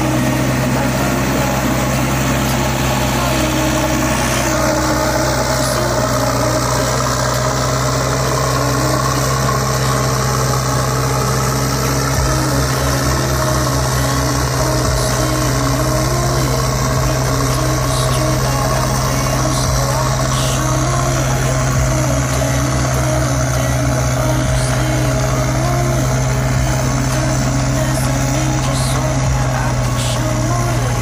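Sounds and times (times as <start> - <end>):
low tone stepping up and down: 0.0 - 31.0
toy engine idling sound: 0.0 - 31.0.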